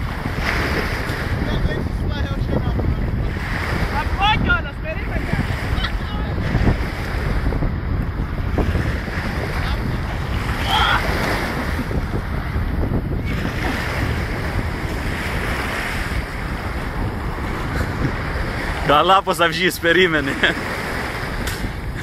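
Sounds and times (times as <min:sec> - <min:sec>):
water sloshing and lapping: 0:00.0 - 0:22.0
water splashing: 0:00.0 - 0:22.0
wind buffeting microphone: 0:00.0 - 0:22.0.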